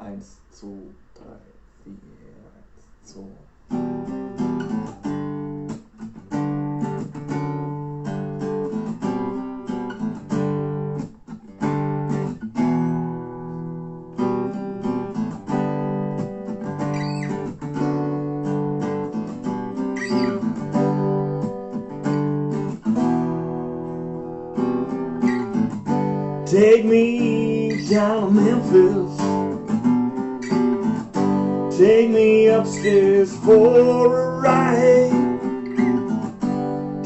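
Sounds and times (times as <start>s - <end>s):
acoustic guitar strumming chords: 3.6s - 37.0s.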